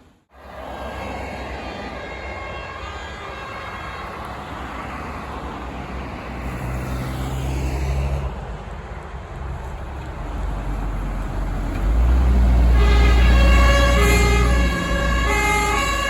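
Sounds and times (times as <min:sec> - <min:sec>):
fire engine driving past: 0:00.3 - 0:16.0.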